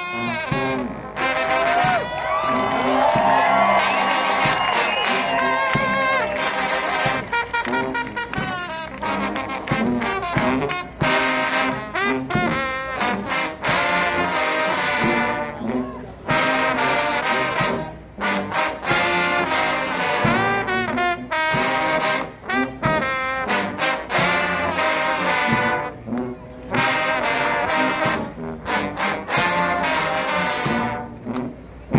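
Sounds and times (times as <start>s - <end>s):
trombone choir playing: 0.0s - 31.9s.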